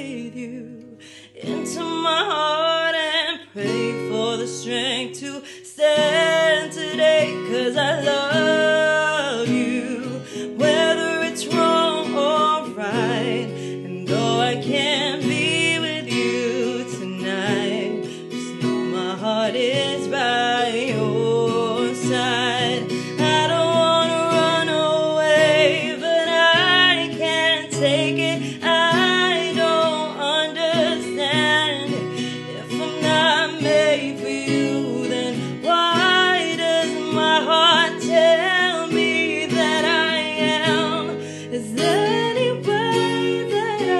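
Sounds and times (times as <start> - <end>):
acoustic guitar playing: 0.0 - 43.9
woman singing: 0.0 - 43.9.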